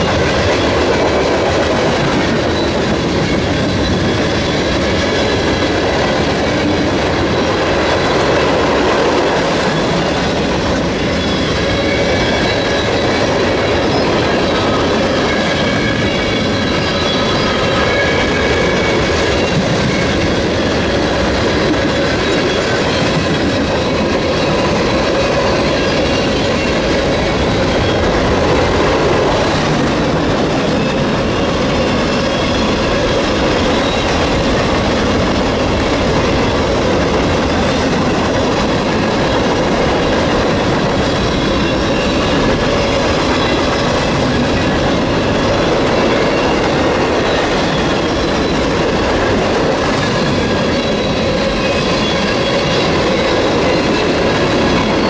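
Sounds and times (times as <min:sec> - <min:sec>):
train wheels clattering over rail: 0:00.0 - 0:55.0
high wheel squeals: 0:09.2 - 0:55.0.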